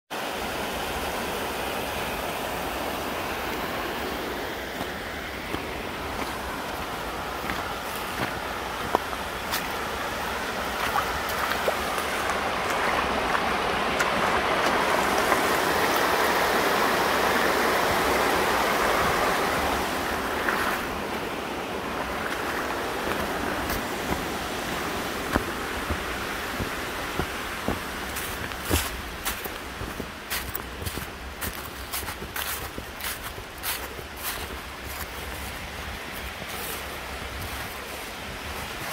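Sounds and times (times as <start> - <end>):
creek water rushing over rocks: 0.1 - 38.9.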